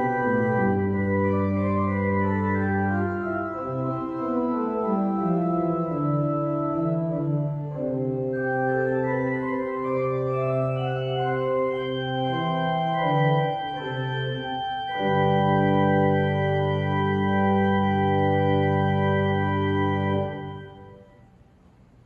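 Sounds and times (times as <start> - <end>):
church organ playing chords: 0.0 - 21.2.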